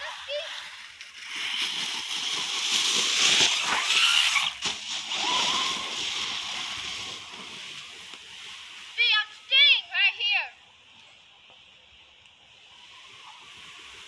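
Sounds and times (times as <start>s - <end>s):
tyres rustling over leaves: 0.0s - 14.0s.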